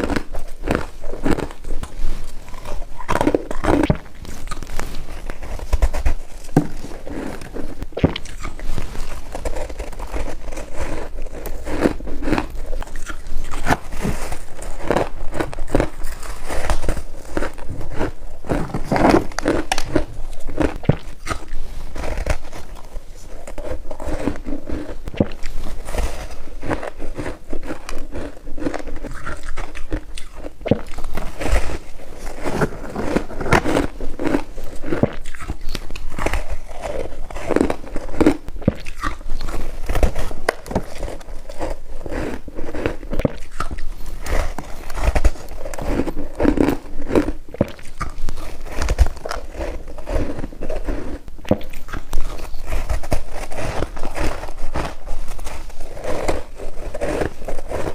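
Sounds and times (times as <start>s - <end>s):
chewing crunchy ice: 0.0s - 57.9s.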